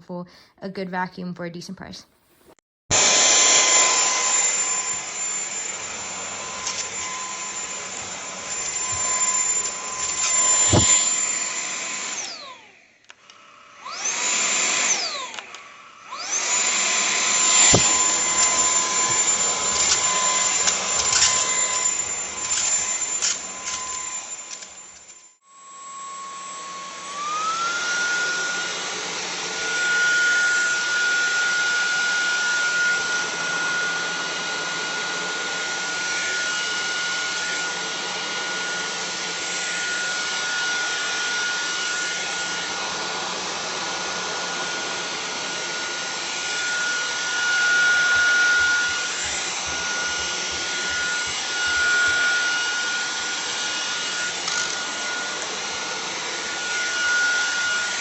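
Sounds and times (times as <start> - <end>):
stick vacuum running: 2.9 - 25.3, 26.6 - 58.0.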